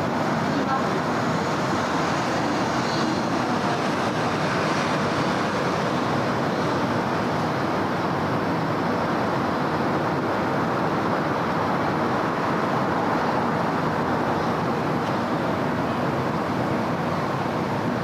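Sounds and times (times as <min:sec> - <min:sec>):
city road traffic: 0:00.0 - 0:18.0.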